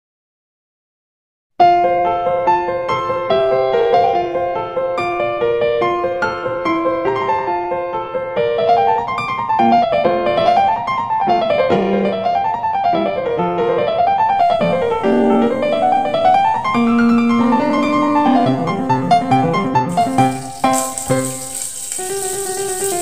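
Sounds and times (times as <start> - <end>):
piano music: 1.7 - 23.0.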